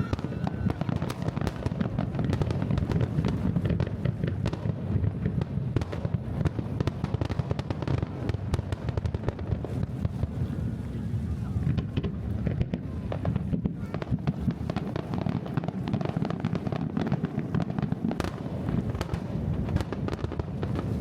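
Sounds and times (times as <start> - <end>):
fireworks booming: 0.0 - 21.0
fireworks crackling: 0.0 - 21.0.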